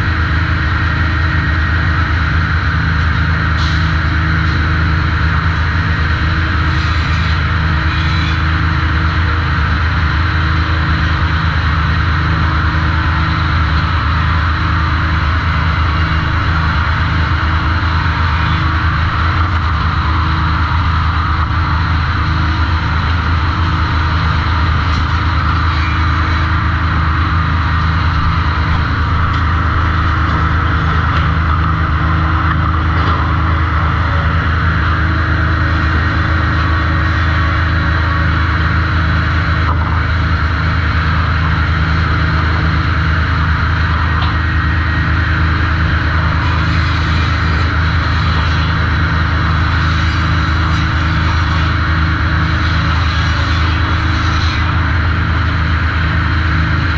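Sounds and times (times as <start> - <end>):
sawmill machinery droning: 0.0 - 56.9.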